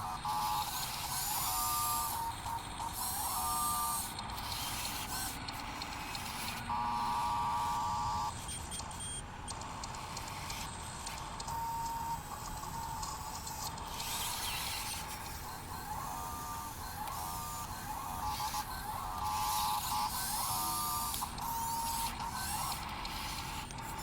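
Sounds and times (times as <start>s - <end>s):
small electric motors whining: 0.0s - 24.0s.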